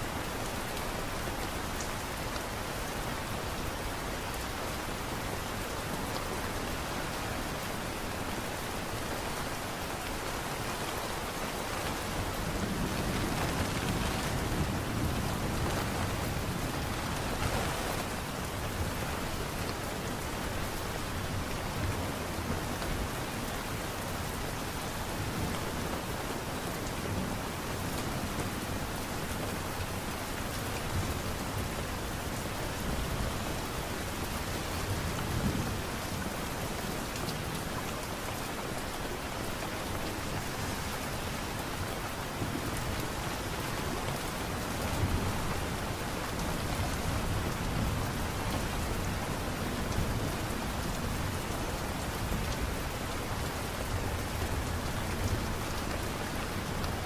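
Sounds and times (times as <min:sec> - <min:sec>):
light rain pattering: 0:00.0 - 0:57.0.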